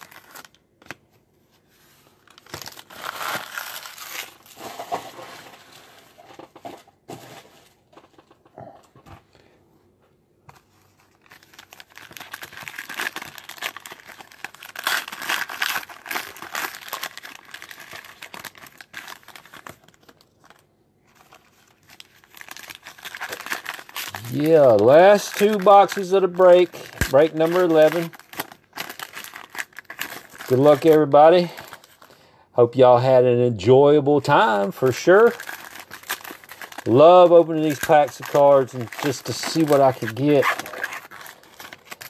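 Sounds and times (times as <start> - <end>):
foil wrappers crinkling and tearing: 0.0 - 1.0, 2.2 - 6.7, 10.9 - 32.2, 34.2 - 42.0.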